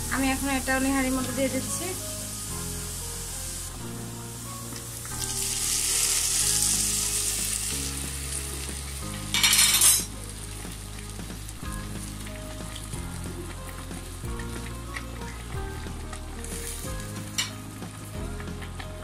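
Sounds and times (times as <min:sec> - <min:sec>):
hot oil sizzling in broth: 0:00.0 - 0:19.0.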